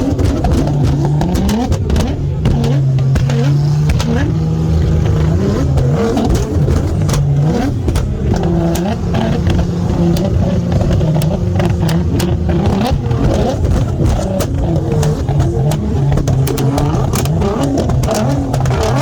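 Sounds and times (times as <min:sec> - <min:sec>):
car engine revving: 0:00.0 - 0:19.0
sharp exhaust cracks: 0:00.0 - 0:19.0.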